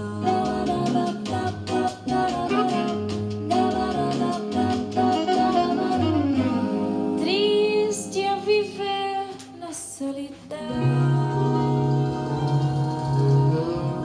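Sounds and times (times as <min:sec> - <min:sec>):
music with singing through speakers: 0:00.0 - 0:14.0.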